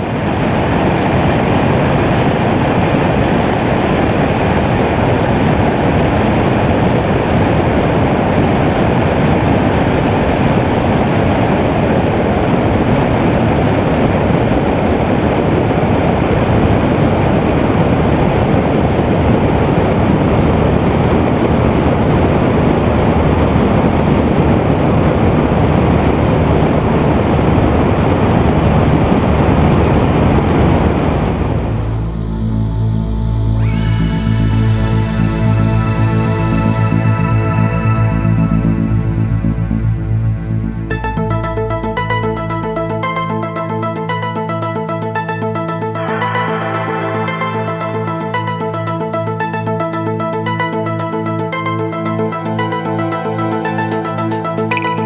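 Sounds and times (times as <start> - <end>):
light aircraft engine drone: 0.0 - 44.1.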